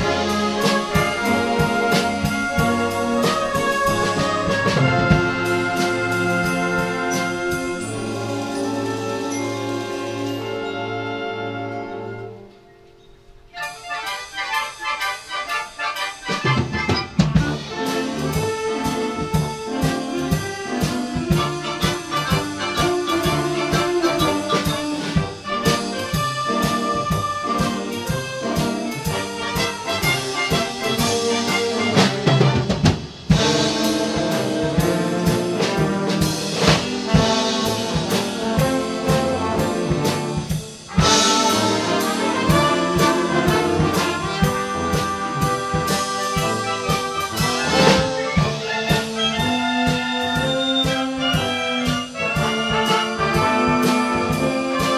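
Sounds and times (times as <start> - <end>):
steady drum beat: 0.0 - 10.5, 13.6 - 54.9
concert band playing: 0.0 - 54.9.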